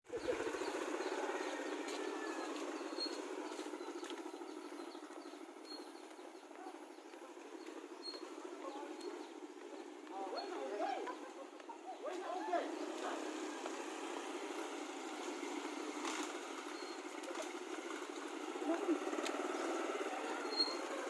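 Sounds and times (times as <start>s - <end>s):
bird chirps: 0.1s - 13.5s, 15.1s - 21.0s.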